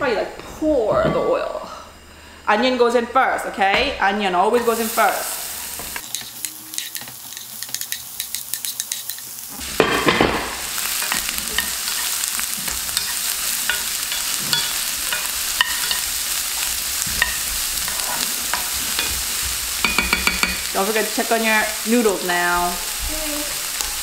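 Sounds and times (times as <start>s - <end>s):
onion sizzling in oil: 4.4s - 24.0s.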